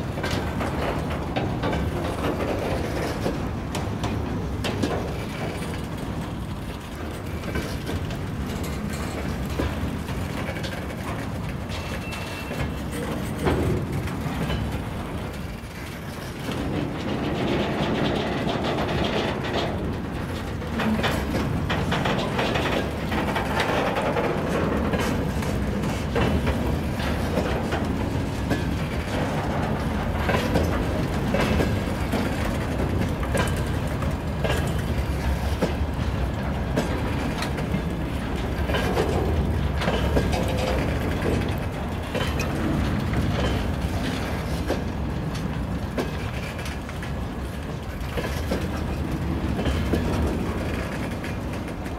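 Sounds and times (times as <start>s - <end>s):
train wheels rumbling on rail: 0.0s - 51.9s
wheels clanking over rail joints: 0.0s - 51.9s.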